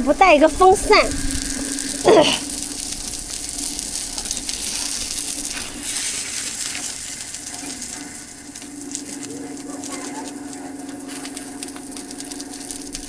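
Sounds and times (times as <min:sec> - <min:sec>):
faint steady hum: 0:00.0 - 0:13.0
food sizzling in a pan: 0:00.0 - 0:13.0.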